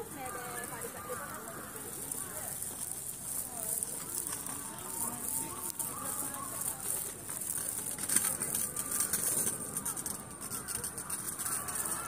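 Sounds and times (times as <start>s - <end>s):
distant chatter of people: 0.0s - 12.0s.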